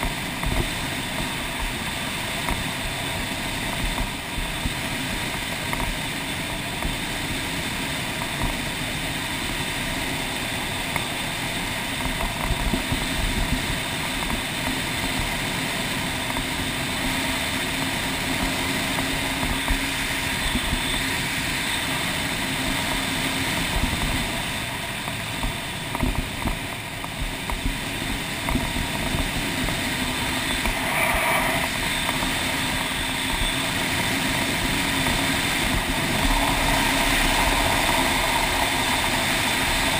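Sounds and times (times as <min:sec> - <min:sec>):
motorcycle engine running: 0:00.0 - 0:39.9
tyre and gravel road noise: 0:00.0 - 0:39.9.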